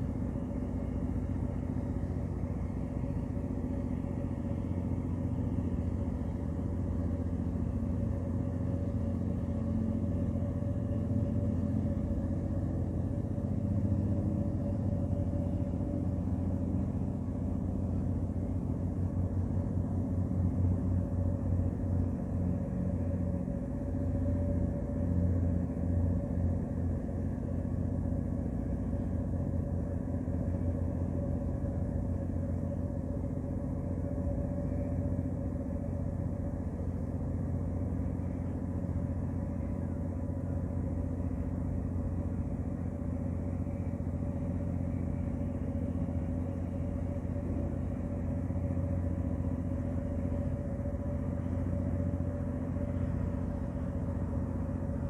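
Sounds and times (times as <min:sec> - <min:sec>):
ship engine drone: 0:00.0 - 0:55.0.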